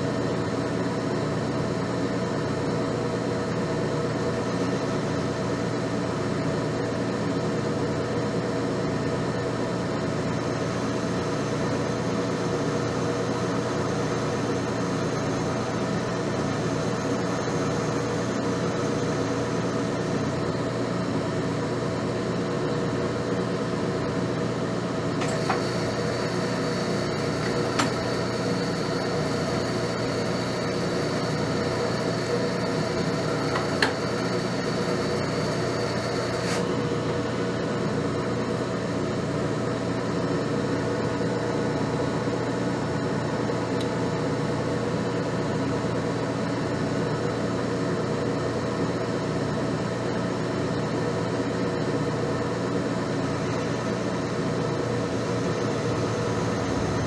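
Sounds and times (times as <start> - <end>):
metal lathe hum: 0.0 - 57.0.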